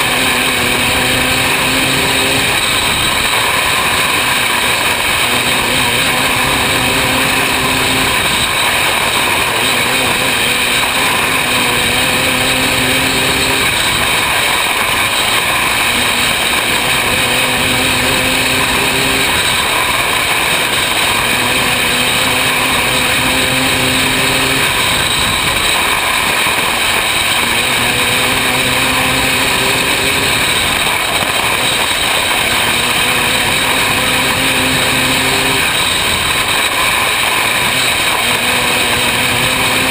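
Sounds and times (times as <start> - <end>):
race car engine revving: 0.0 - 39.9
rush of wind and track noise: 0.0 - 39.9.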